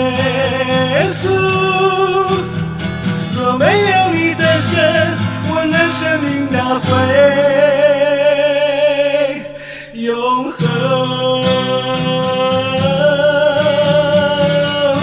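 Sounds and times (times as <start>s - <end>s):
person singing: 0.0s - 2.6s, 3.3s - 15.0s
guitar accompaniment: 0.0s - 15.0s.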